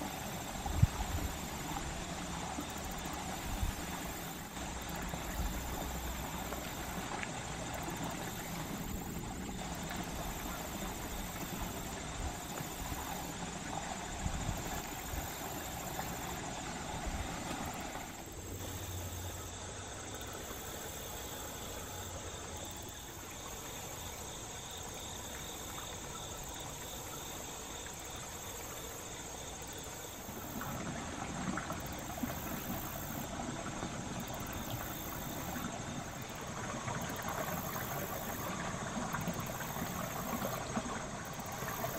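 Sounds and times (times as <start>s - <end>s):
high insect drone: 0.0s - 41.9s
water rushing through channel: 0.0s - 41.9s.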